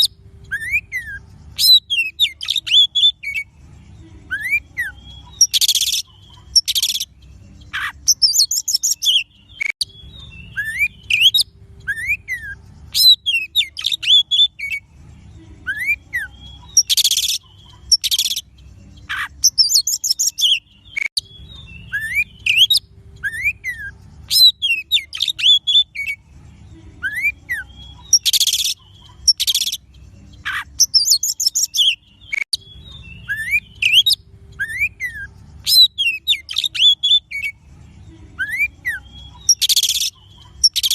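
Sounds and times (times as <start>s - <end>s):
bird song with whistles and rasps: 0.0s - 40.9s.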